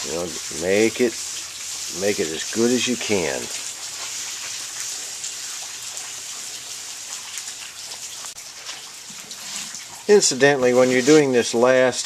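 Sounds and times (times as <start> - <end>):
raindrops ticking: 0.0 - 10.7
steady rain hiss: 0.0 - 12.0.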